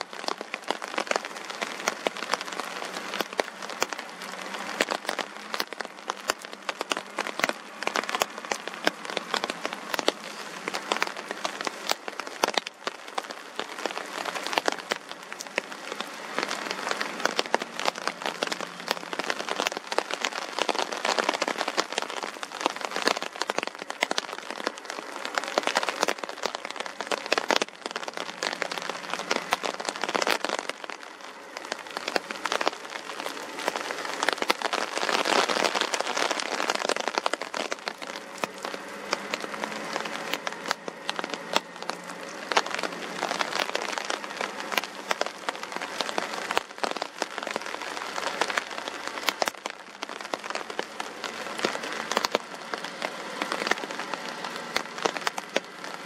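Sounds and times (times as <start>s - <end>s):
raindrops ticking on a surface: 0.0s - 56.0s
steady rain: 0.0s - 56.0s.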